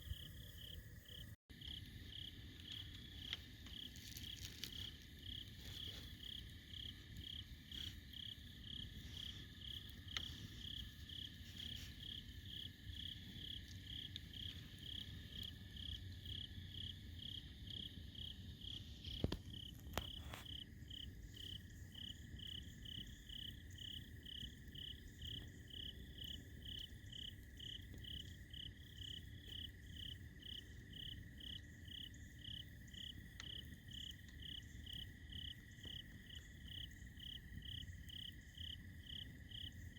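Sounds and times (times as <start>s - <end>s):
insects chirping: 0.0s - 39.9s
campfire hissing and popping: 1.6s - 39.9s.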